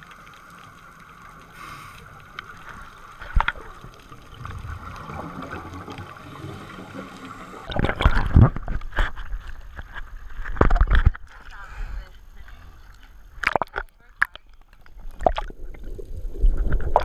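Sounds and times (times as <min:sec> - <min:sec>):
muffled underwater hum: 0:00.0 - 0:17.0
water splashing against camera: 0:00.0 - 0:17.0.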